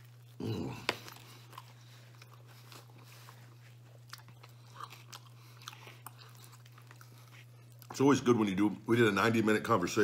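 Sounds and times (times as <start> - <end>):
chewing pizza crust: 0.0 - 9.4.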